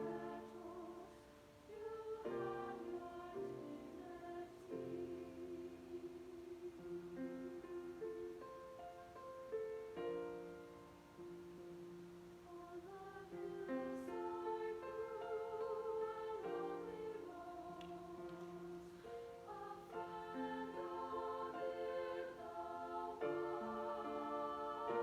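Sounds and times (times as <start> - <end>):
choir singing sustained chords: 0.0 - 25.0.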